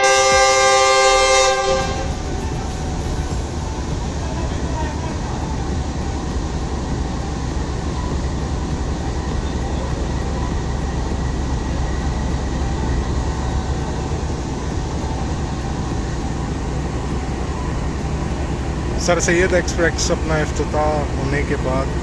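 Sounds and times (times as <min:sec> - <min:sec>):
locomotive diesel engine drone: 0:00.0 - 0:22.0.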